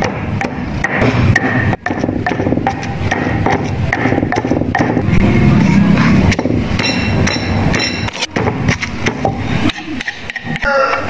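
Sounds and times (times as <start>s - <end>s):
pestle pounding in stone mortar: 0.0s - 5.3s, 6.2s - 10.8s.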